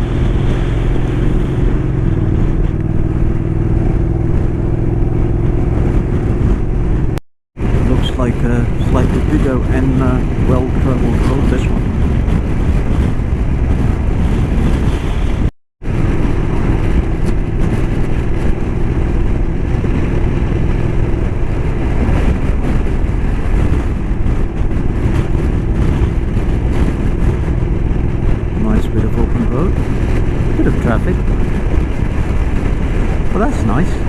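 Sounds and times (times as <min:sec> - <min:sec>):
motorcycle engine: 0:00.0 - 0:34.0
wind rushing over microphone: 0:00.0 - 0:34.0.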